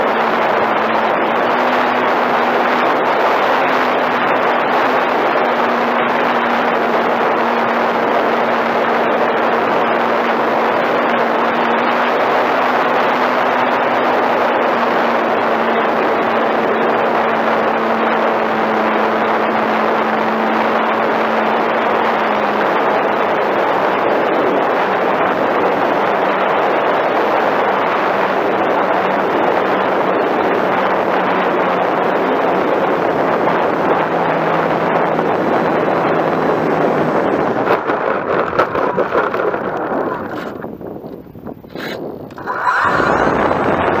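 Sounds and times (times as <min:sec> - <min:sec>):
electric motor and propeller humming: 0:00.0 - 0:44.0
wind rushing over airframe: 0:00.0 - 0:44.0.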